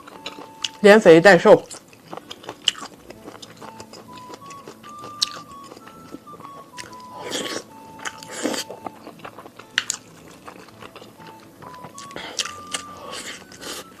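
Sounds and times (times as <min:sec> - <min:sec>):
person biting and chewing: 0:00.0 - 0:00.8, 0:01.6 - 0:14.0
faint simple melody: 0:00.0 - 0:14.0.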